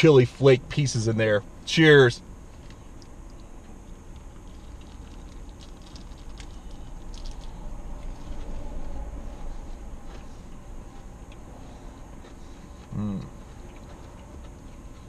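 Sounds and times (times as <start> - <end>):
chewing crunchy fried shrimp: 2.4 - 15.0.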